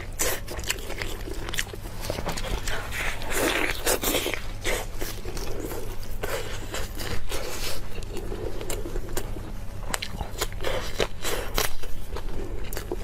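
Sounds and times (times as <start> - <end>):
wet chewing and crunching: 0.0 - 13.0.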